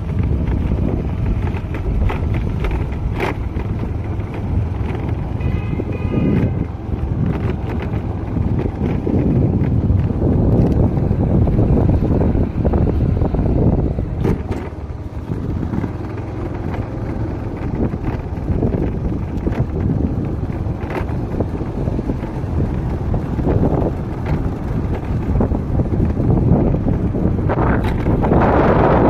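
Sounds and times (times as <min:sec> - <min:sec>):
low road rumble: 0:00.0 - 0:29.0
wind buffeting microphone: 0:00.0 - 0:29.0.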